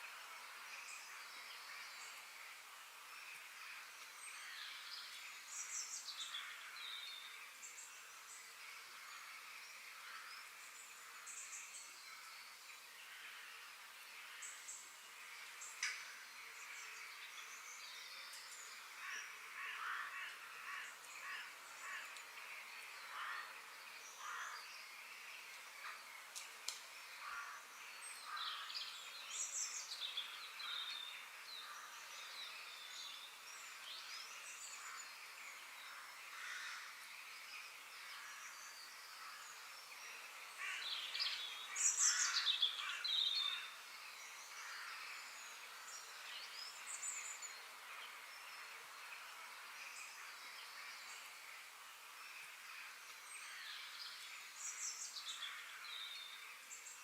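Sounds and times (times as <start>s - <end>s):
steady outdoor hiss: 0.0s - 57.0s
birds calling and chirping: 0.1s - 57.0s.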